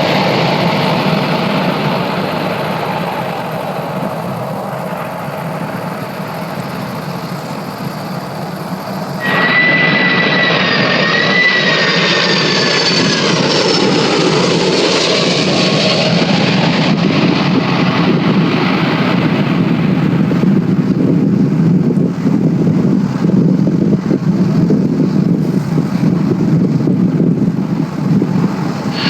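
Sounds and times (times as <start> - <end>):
jet engine roar: 0.0 - 29.0
jet engine whine: 0.0 - 29.0.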